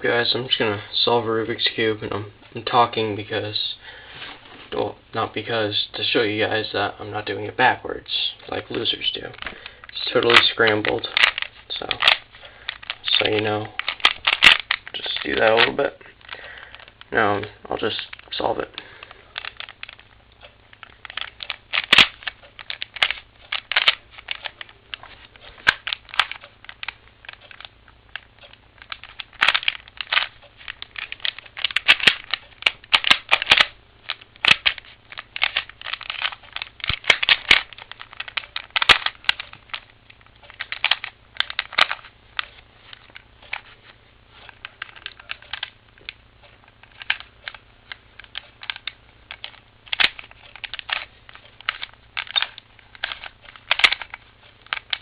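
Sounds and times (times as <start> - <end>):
puzzle cube clicking: 8.6 - 20.1, 20.7 - 55.0.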